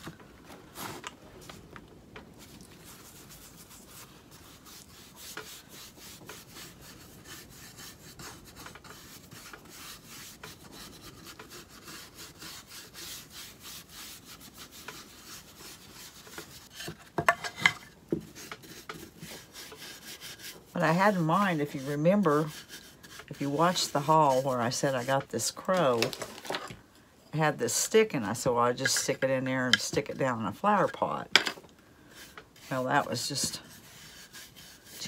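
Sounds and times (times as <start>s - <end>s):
brush scrubbing wood: 2.4s - 17.2s, 18.2s - 26.1s, 27.8s - 31.2s, 32.0s - 35.0s.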